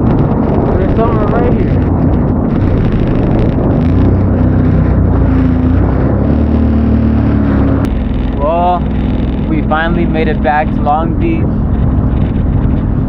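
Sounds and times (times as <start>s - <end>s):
dense rushing noise: 0.0s - 13.0s
jet ski engine running: 0.0s - 13.0s.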